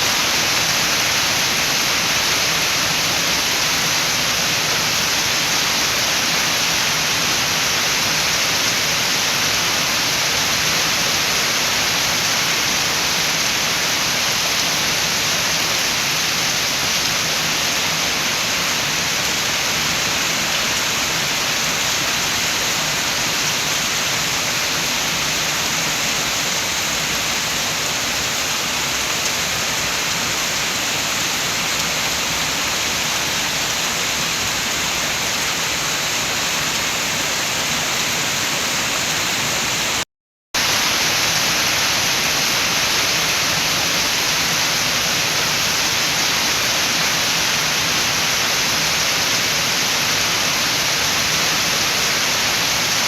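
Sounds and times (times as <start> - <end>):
rain with wind: 0.0 - 40.0, 40.6 - 53.0.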